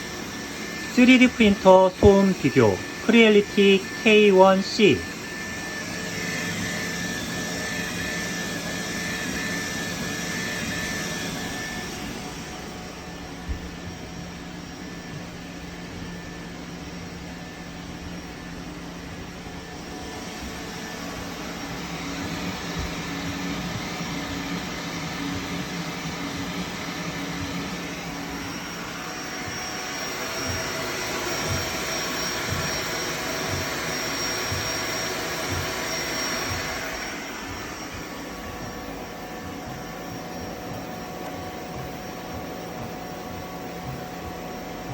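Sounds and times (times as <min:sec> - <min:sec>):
cooling fans whirring: 0:00.0 - 0:44.9.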